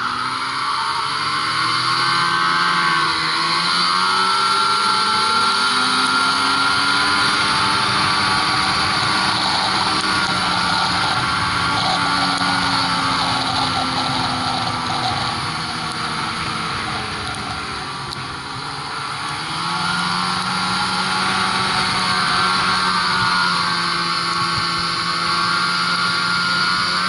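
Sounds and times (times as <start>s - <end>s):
snowmobile engine running: 0.0s - 27.0s
snowmobile track noise: 0.0s - 27.0s.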